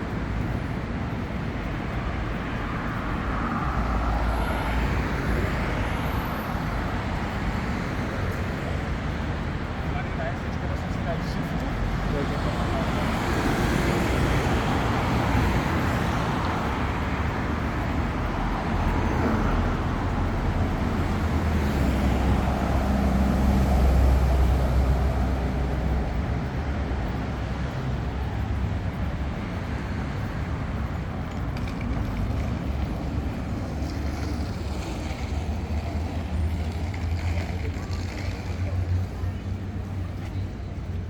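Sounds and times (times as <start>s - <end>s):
low traffic rumble: 0.0s - 41.0s
vehicles running past: 0.0s - 41.0s.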